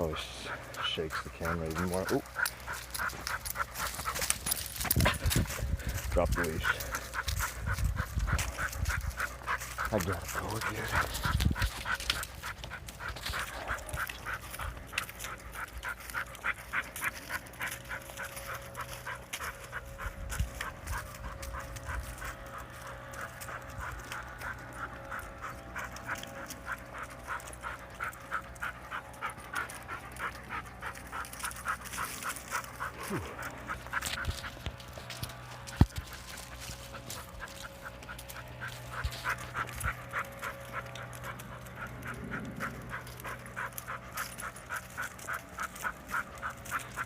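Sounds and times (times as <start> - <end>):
dog panting heavily: 0.0 - 47.0.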